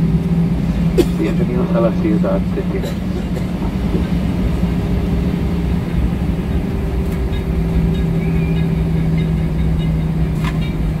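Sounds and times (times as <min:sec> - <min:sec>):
aircraft engines humming: 0:00.0 - 0:11.0
rolling gear rumble: 0:00.0 - 0:11.0.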